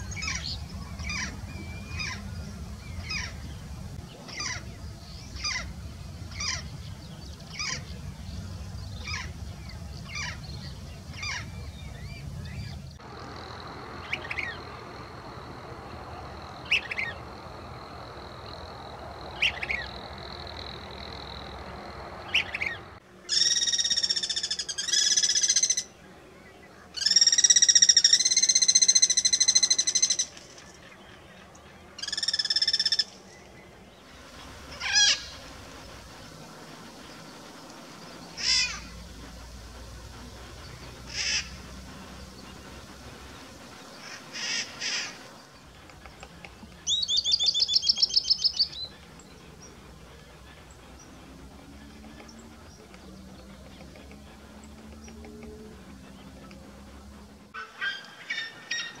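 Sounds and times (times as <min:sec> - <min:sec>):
loud long bird calls: 0:00.0 - 0:59.0.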